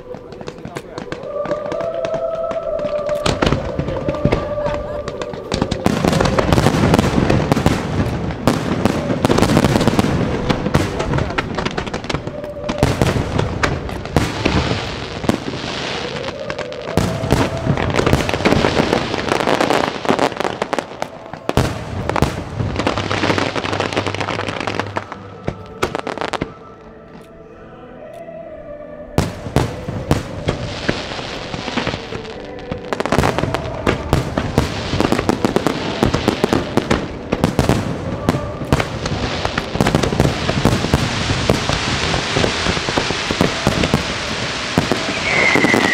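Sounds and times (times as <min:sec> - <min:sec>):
fireworks bangs and crackling: 0:00.0 - 0:27.2, 0:29.2 - 0:45.9
music playing: 0:00.0 - 0:45.9.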